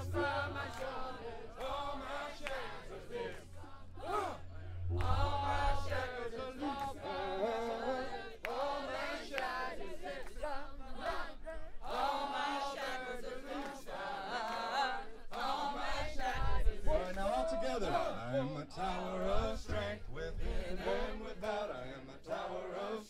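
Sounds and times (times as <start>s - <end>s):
group chanting in unison: 0.0s - 23.0s.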